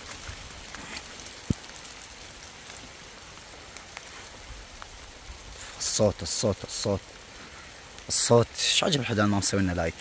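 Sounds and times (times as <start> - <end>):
rain falling on trees and grass: 0.0 - 10.0.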